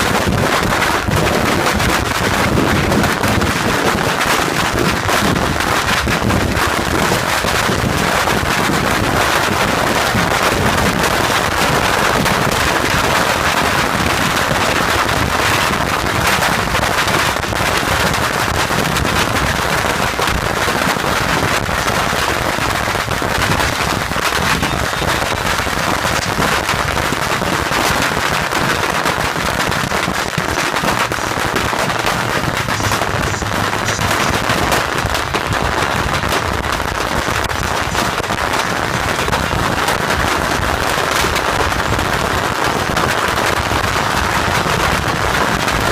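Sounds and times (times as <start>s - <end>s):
bottle rockets crackling and popping: 0.0s - 45.9s.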